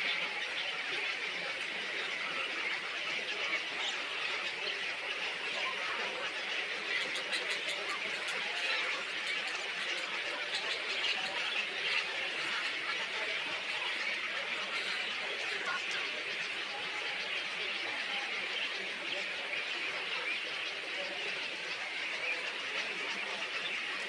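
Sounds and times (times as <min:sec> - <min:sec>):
small birds chattering: 0:00.0 - 0:24.0.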